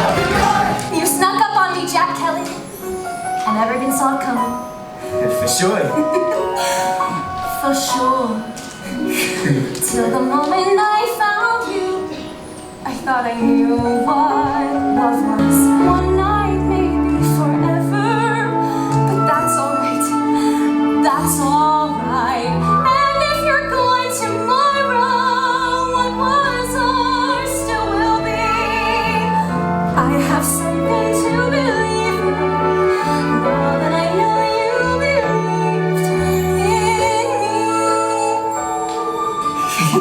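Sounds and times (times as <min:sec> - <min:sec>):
sustained accompaniment: 0:00.0 - 0:40.0
woman singing a ballad: 0:07.4 - 0:40.0.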